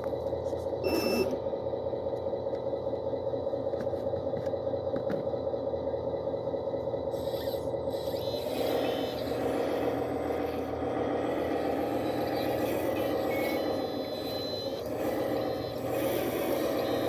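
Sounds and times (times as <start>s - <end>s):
heavy equipment engine whine: 0.0s - 17.0s.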